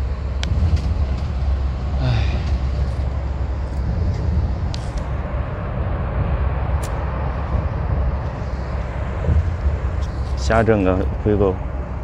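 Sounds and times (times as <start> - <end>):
coach engine and tyres rumbling: 0.0 - 12.0.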